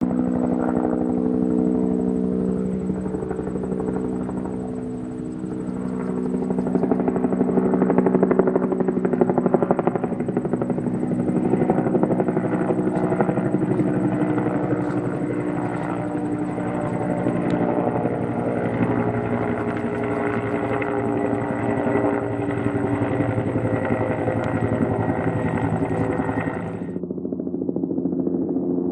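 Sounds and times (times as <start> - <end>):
helicopter engine drone: 0.0 - 28.9
helicopter rotor blades chopping: 0.0 - 28.9.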